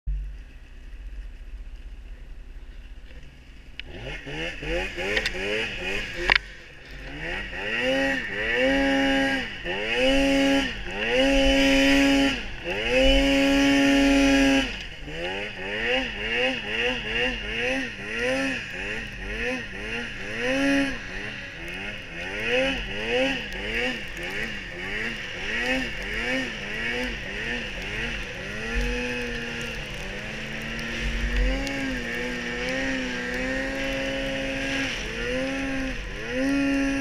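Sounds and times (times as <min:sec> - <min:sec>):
snowmobile engine revving: 0:03.2 - 0:37.0.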